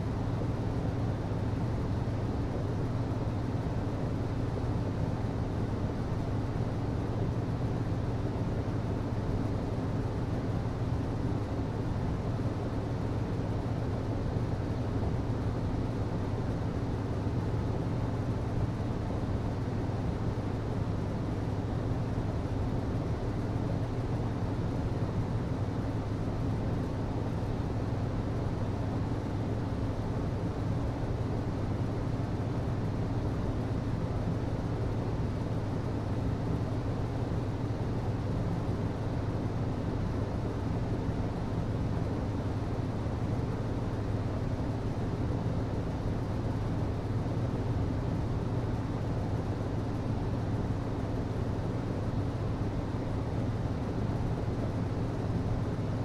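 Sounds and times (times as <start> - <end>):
air conditioning hum: 0.0 - 56.0.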